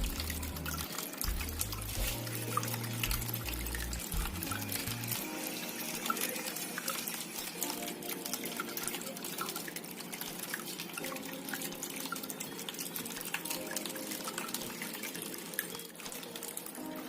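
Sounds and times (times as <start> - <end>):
fountain water trickling: 0.0 - 17.0.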